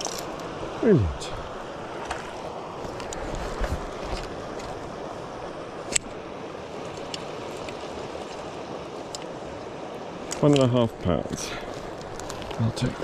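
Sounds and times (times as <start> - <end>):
stream water over rocks: 0.0 - 13.0.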